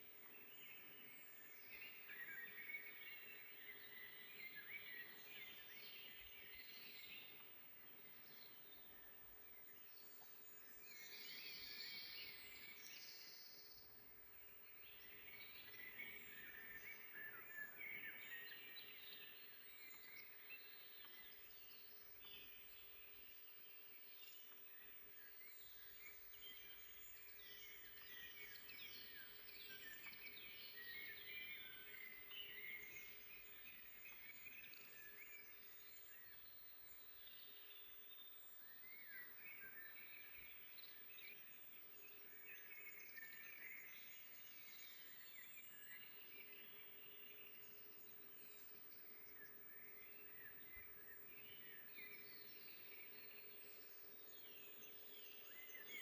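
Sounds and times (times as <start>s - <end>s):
soft outdoor hiss: 0.0s - 56.0s
songbirds singing faintly: 0.0s - 56.0s.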